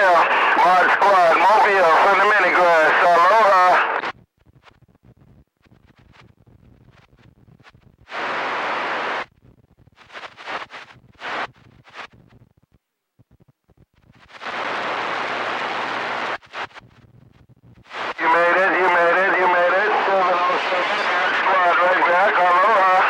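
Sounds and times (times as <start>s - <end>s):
choppy bursts of noise: 0.0s - 12.6s, 13.2s - 23.0s
radio static: 0.0s - 23.0s.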